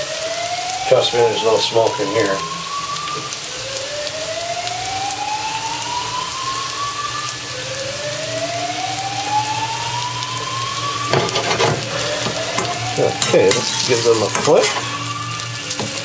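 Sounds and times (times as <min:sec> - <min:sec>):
food sizzling in hot oil: 0:00.0 - 0:16.0
smoke alarm whooping: 0:00.0 - 0:16.0.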